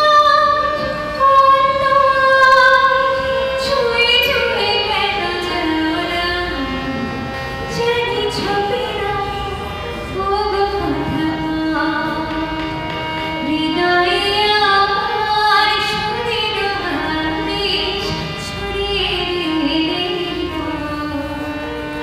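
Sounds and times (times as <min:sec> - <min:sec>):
woman singing: 0:00.0 - 0:07.1, 0:07.7 - 0:12.6, 0:13.4 - 0:21.3
harmonium: 0:00.0 - 0:22.0.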